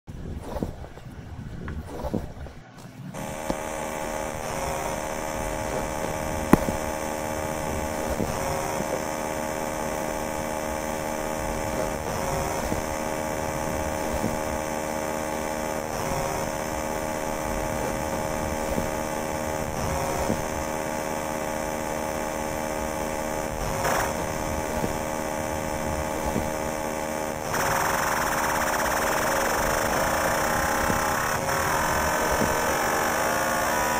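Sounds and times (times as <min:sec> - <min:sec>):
droning buzz of held tones: 0:03.2 - 0:33.9.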